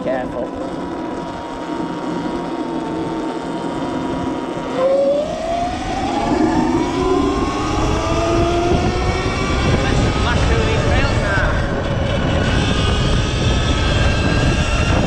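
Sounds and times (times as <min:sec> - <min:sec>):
electric motorbike motor whining: 0:00.0 - 0:15.0.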